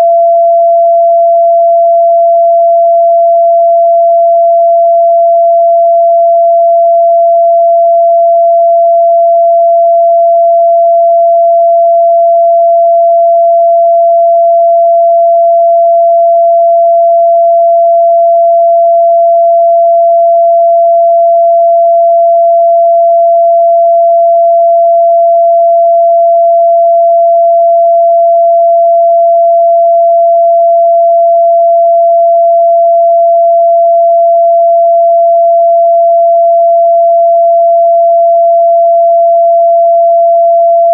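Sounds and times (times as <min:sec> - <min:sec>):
sine wave test tone: 0:00.0 - 0:40.9.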